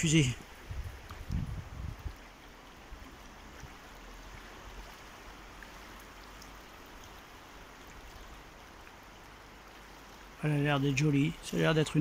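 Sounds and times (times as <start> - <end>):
fast river current rushing: 0.0 - 12.0.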